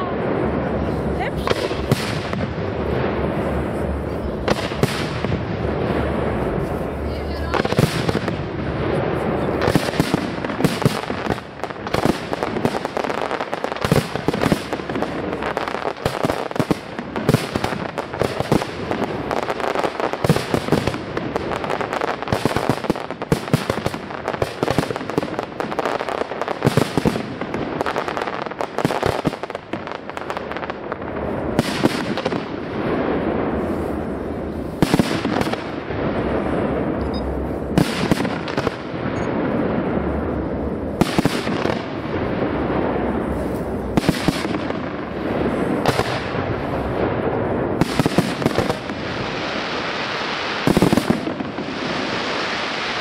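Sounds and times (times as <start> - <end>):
fireworks bursts and crackle: 0.0 - 53.0
sharp firework bangs: 0.0 - 53.0.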